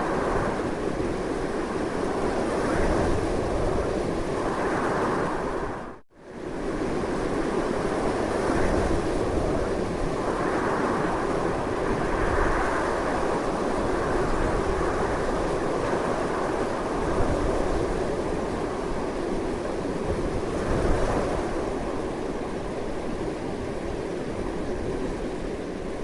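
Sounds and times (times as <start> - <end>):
strong wind blowing: 0.0 - 26.0.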